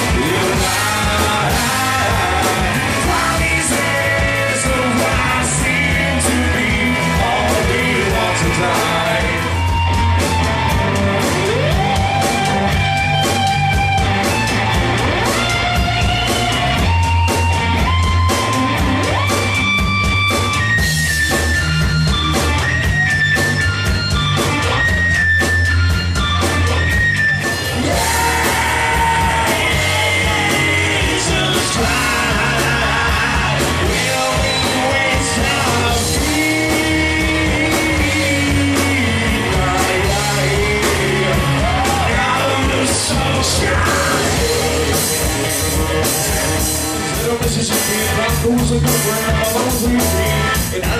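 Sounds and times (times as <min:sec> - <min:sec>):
electric guitar sliding notes: 0:00.0 - 0:48.4
rock band playing: 0:00.0 - 0:50.9.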